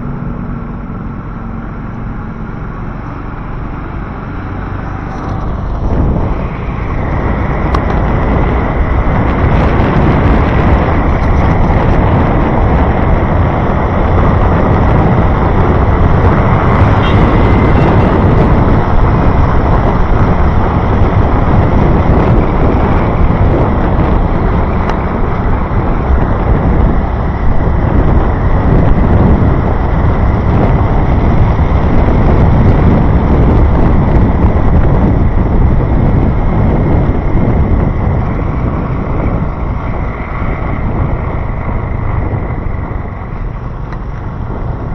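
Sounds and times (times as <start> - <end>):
road traffic: 0.0 - 44.9
wind rumbling on microphone: 0.0 - 44.9.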